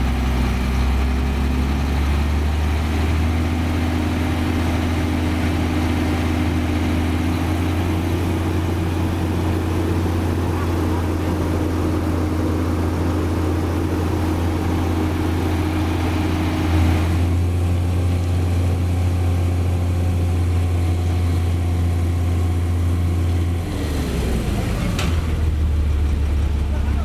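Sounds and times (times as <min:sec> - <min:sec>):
heavy diesel engines droning: 0:00.0 - 0:27.0.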